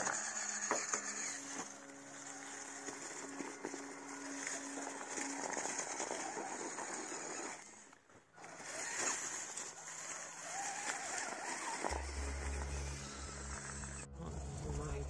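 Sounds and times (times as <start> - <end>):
small motor whine: 0.0 - 14.1
tyres crackling through leaves: 0.0 - 15.0.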